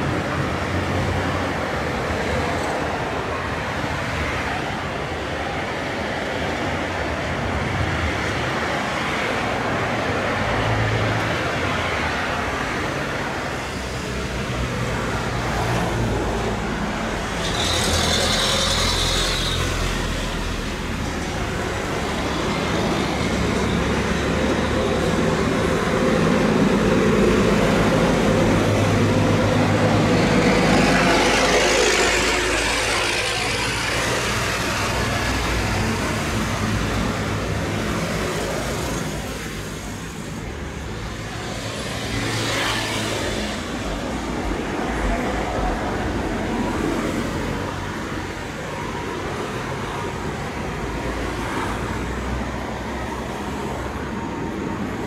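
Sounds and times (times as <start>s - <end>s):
jet engines at takeoff: 0.0s - 55.0s.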